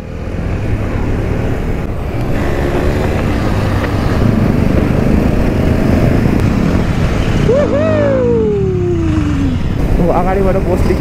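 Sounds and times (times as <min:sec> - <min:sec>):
wind rushing over microphone: 0:00.0 - 0:11.0
motorcycle engine running: 0:01.9 - 0:11.0.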